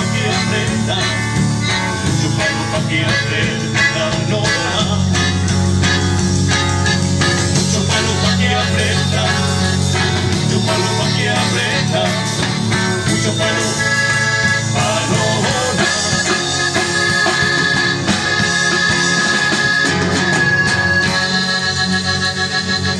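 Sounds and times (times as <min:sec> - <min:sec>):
live band playing instrumental: 0:00.0 - 0:22.9.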